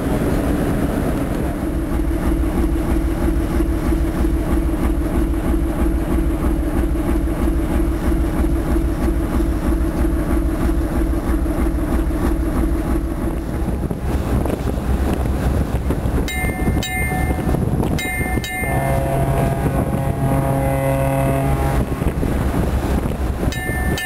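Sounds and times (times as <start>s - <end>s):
boat engine throbbing: 0.0s - 24.0s.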